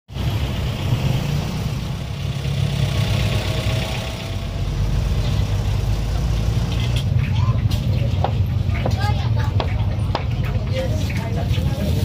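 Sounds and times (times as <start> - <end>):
car engines in slow traffic: 0.1 - 12.0
hum of traffic: 0.1 - 12.0.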